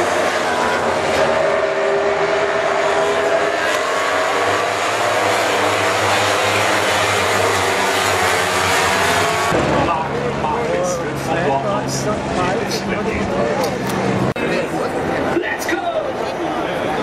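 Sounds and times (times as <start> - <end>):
race motorbike engines passing: 0.0 - 17.0.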